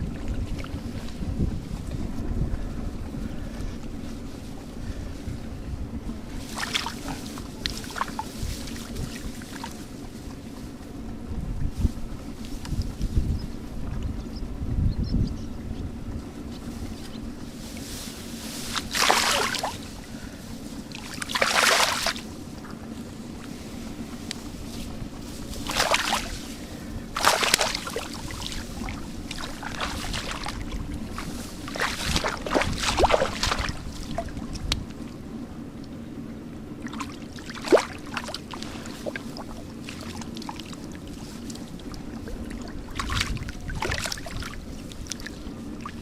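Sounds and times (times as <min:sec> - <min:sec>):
water splashing and sloshing: 0:00.0 - 0:02.3, 0:06.1 - 0:13.2, 0:16.2 - 0:46.0
steady low hum: 0:00.0 - 0:46.0.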